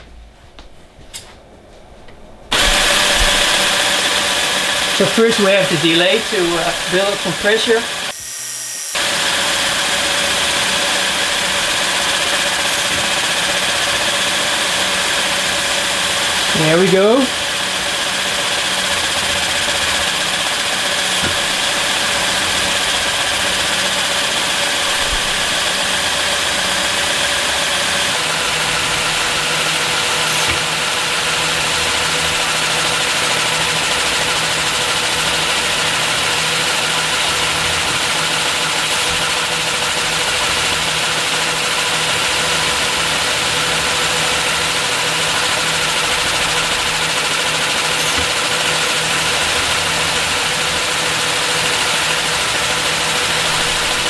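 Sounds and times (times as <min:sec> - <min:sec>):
small air compressor running: 0:02.5 - 0:54.0.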